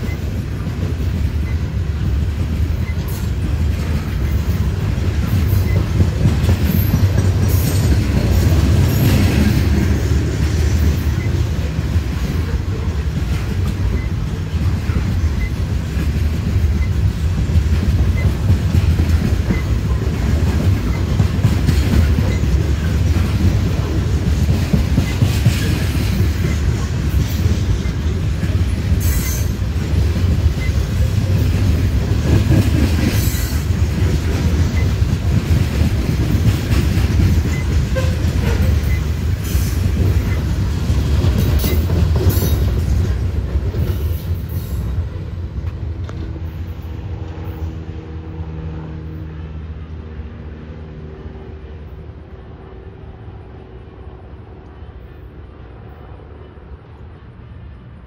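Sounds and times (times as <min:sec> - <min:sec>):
sharp clacks of train wheels: 0:00.0 - 0:49.4
train wheels rumbling on track: 0:00.0 - 0:58.0.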